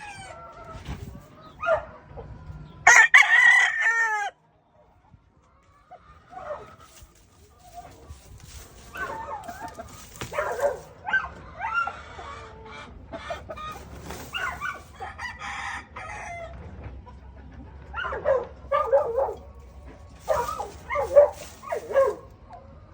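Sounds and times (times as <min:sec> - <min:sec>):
chickens clucking: 0:00.0 - 0:02.8, 0:04.8 - 0:22.9
roosters crowing: 0:00.0 - 0:04.4, 0:06.1 - 0:16.8, 0:18.7 - 0:22.6.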